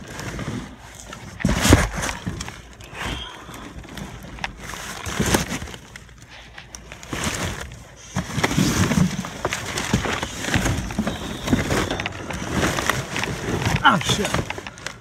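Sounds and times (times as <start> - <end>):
cardboard boxes scraping: 0.0 - 15.0
plastic bags rustling: 0.0 - 15.0.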